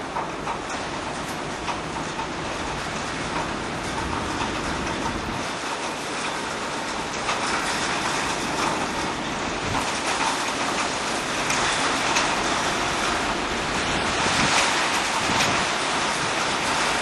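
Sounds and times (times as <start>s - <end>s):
storm wind blowing hard: 0.0s - 17.0s.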